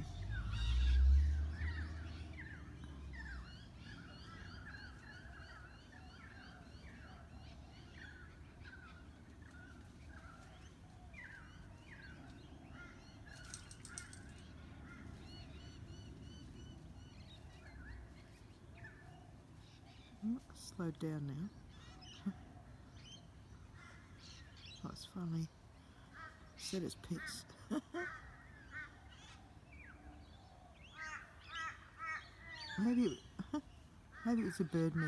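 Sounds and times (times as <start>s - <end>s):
birds calling in chorus: 0.0s - 35.0s.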